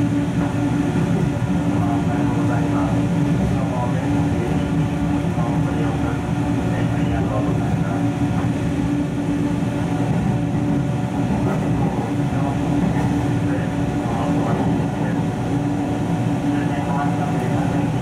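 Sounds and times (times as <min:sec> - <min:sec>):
electric train motor hum: 0:00.0 - 0:18.0
wheels rumbling on rail: 0:00.0 - 0:18.0.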